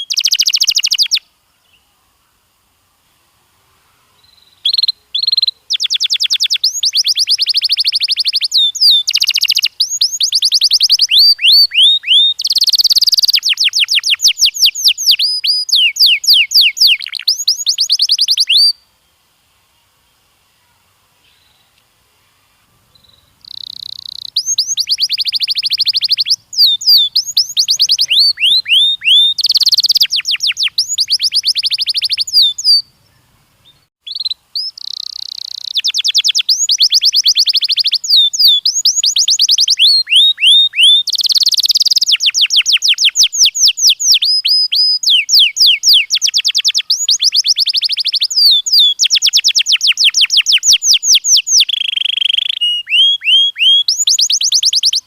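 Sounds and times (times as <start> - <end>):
canary singing trills: 0.0 - 1.9, 4.1 - 18.9, 22.8 - 55.0.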